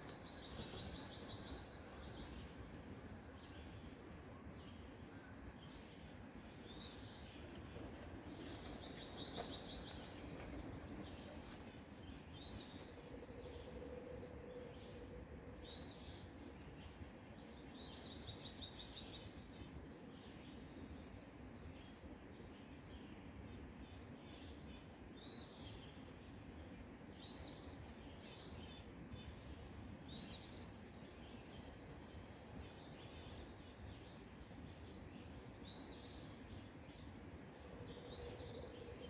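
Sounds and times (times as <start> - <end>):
low steady background rumble: 0.0 - 39.0
small birds trilling and chirping: 0.0 - 39.0.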